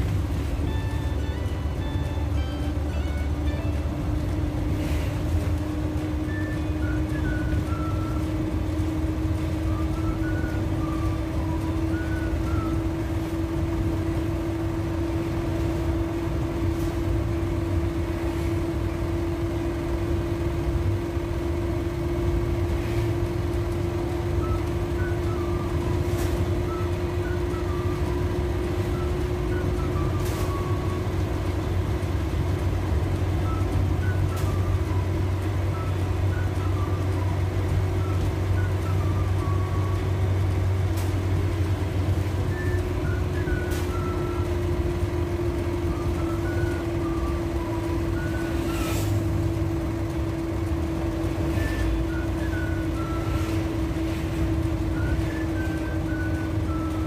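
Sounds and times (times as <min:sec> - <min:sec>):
low engine hum with whine: 0:00.0 - 0:57.0.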